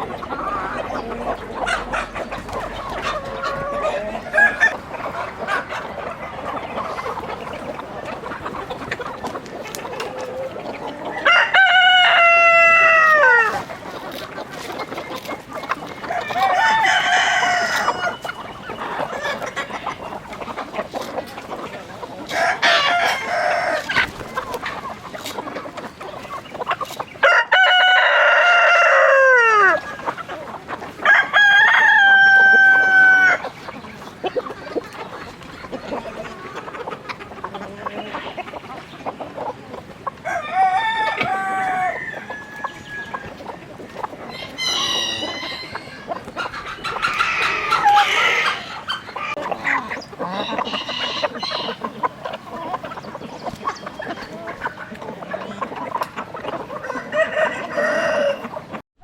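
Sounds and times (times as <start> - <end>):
roosters crowing: 0.0 - 34.4, 39.4 - 58.8
chickens clucking: 0.0 - 58.8.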